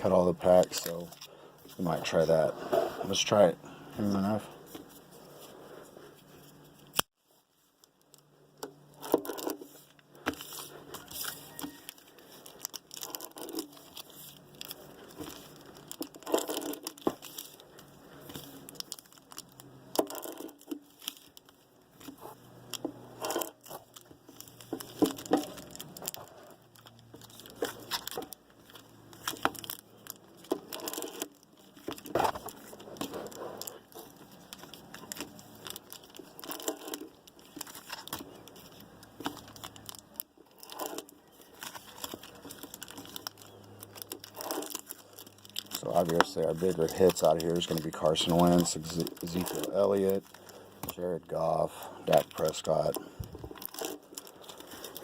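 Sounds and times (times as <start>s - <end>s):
foil wrappers crinkling and tearing: 0.0s - 55.0s.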